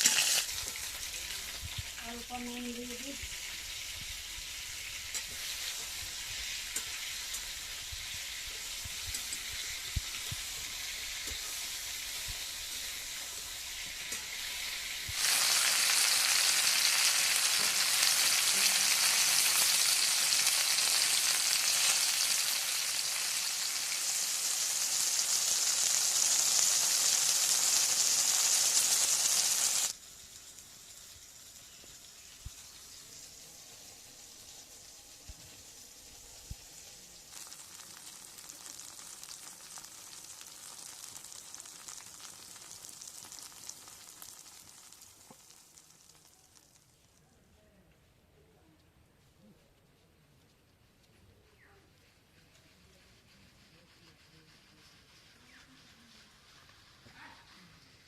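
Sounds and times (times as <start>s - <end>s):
fish sizzling in hot oil: 0.0s - 47.2s, 53.2s - 58.0s.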